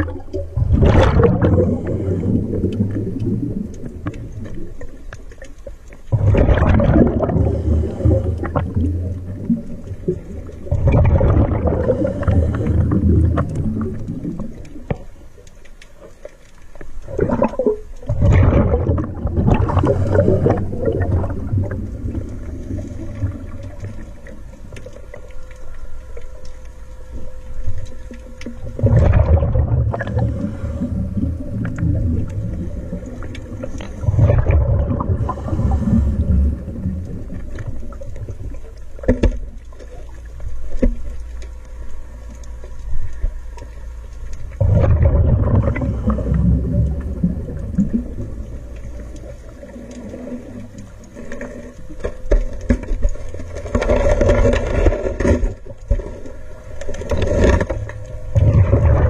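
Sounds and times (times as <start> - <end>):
faint steady hum: 0.0 - 59.0
underwater bubbles gurgling: 0.0 - 59.0.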